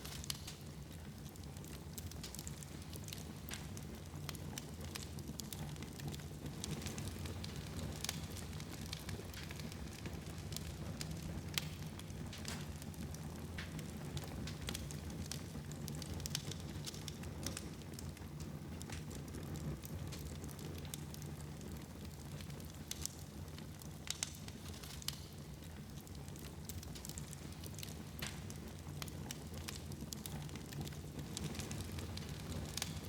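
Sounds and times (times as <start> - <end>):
logs crackling and popping: 0.0 - 33.0
wood fire hissing: 0.0 - 33.0.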